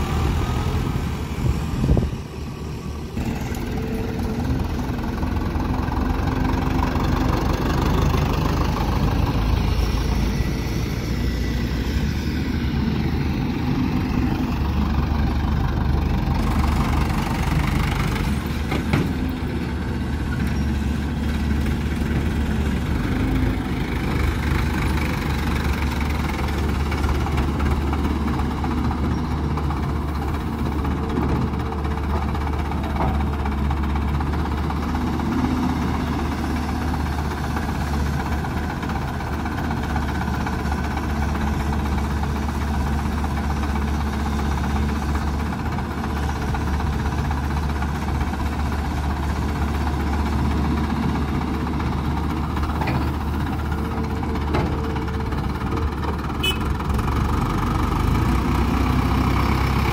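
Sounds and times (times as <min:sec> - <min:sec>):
excavator diesel engine running: 0:00.0 - 0:59.9
tractor diesel engine running: 0:00.0 - 0:59.9.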